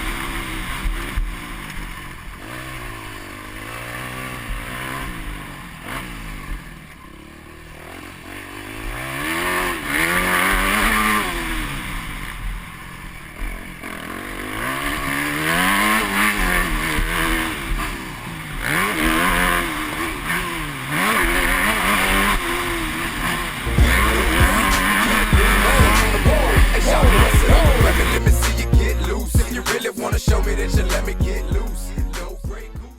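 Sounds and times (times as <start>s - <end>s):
motocross bike engine revving: 0.0s - 32.9s.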